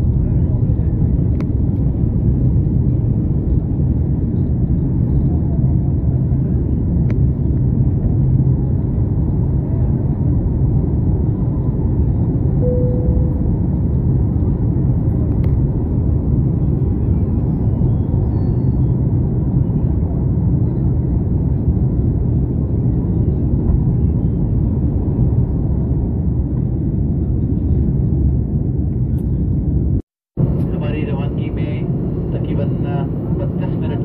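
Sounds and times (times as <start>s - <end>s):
jet engine cabin rumble: 0.0s - 34.0s.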